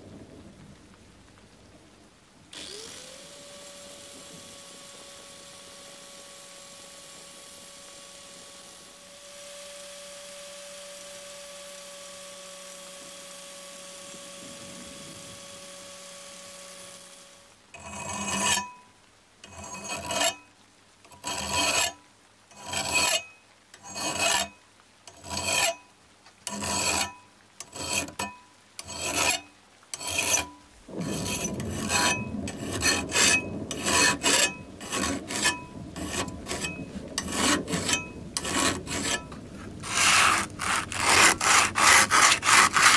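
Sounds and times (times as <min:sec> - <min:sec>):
abrasive tool rasping strokes: 0:02.6 - 0:18.7, 0:22.6 - 0:24.5, 0:25.1 - 0:25.8, 0:26.5 - 0:42.9.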